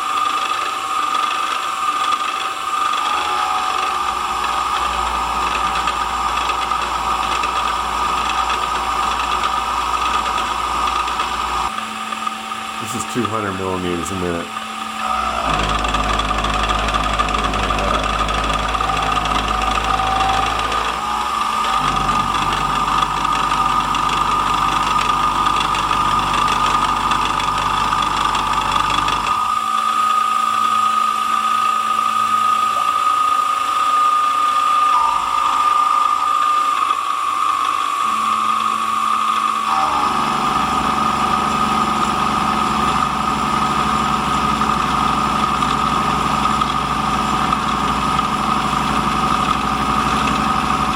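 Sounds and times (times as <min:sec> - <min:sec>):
low stepper motor tones: 0:00.0 - 0:50.9
steady high machine tone: 0:00.0 - 0:50.9.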